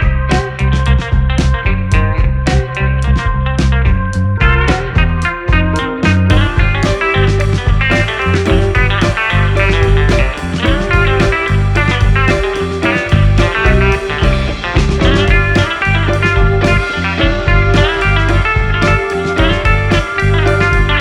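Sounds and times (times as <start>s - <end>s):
guitar-led blues-rock music: 0.0s - 21.0s.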